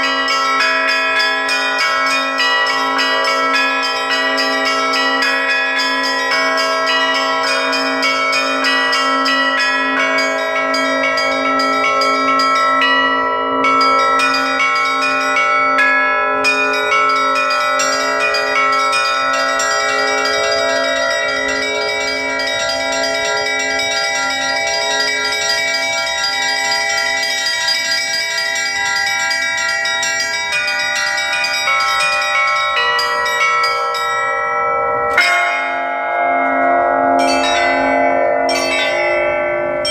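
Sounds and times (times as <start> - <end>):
low church bell struck: 0.0 - 39.9
small chiming bells: 0.0 - 39.9.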